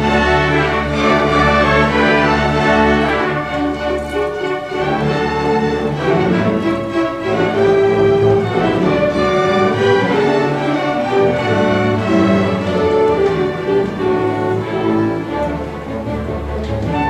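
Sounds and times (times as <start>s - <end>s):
symphony orchestra playing: 0.0s - 17.0s.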